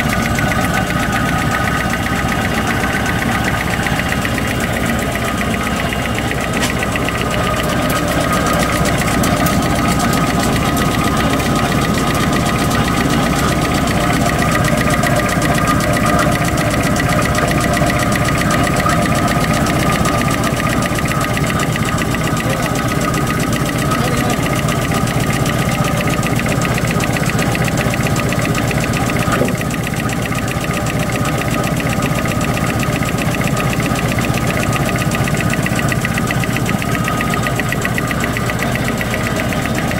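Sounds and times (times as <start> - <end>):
rapid mechanical clatter: 0.0 - 39.9.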